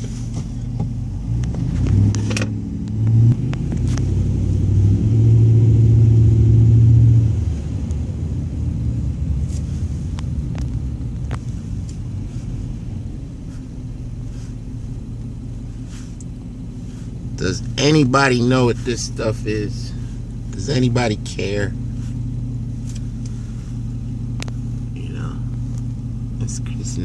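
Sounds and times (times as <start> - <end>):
car engine hum: 0.0 - 27.0
road rumble: 0.0 - 27.0.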